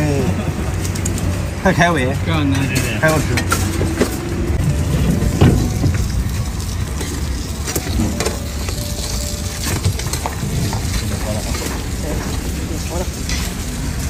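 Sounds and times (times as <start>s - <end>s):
flatbreads sizzling in oil: 2.6s - 14.0s.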